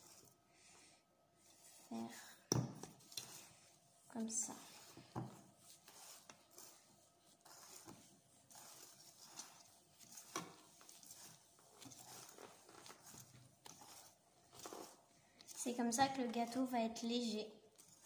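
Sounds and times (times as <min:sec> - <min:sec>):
whisk swishing in batter: 0:00.0 - 0:00.5, 0:01.4 - 0:02.2, 0:02.9 - 0:18.0.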